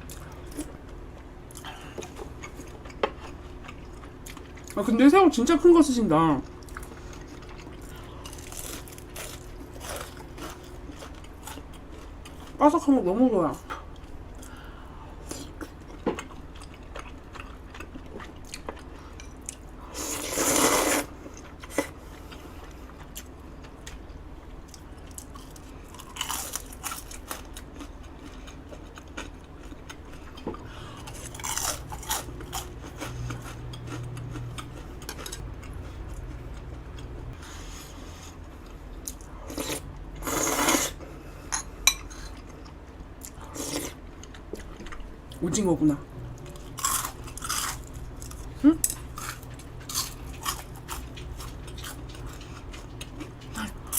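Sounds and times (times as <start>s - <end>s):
crunching and chewing fried food: 0.0s - 5.0s, 6.4s - 12.7s, 13.7s - 41.2s, 42.1s - 45.5s, 46.4s - 53.9s.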